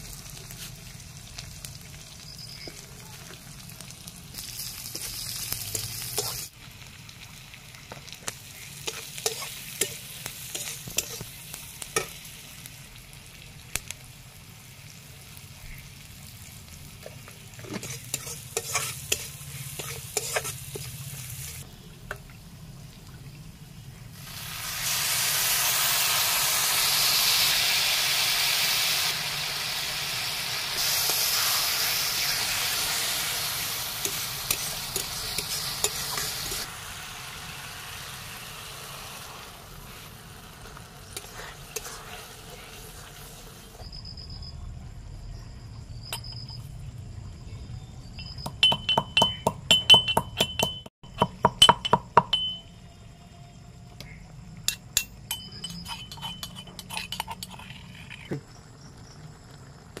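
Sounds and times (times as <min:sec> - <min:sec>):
greens sizzling in a wok: 0:00.0 - 0:44.1, 0:51.9 - 1:00.0.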